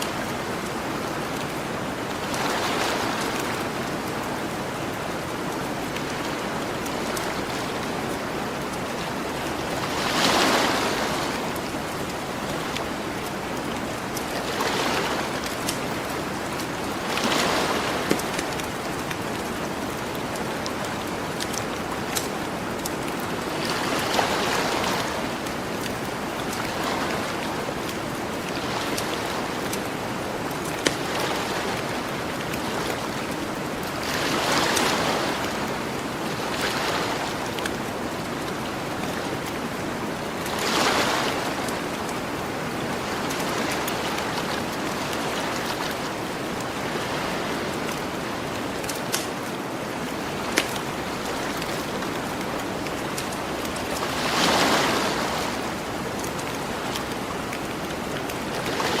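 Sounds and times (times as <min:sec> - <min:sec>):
ocean waves washing ashore: 0:00.0 - 0:59.0.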